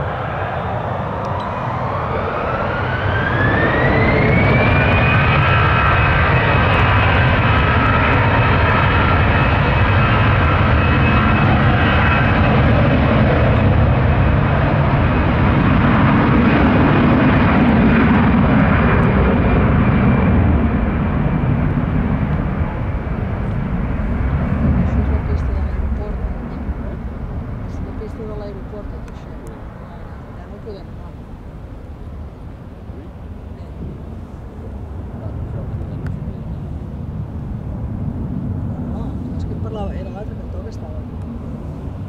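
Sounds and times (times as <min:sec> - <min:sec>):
jet engines roaring at takeoff: 0:00.0 - 0:42.0.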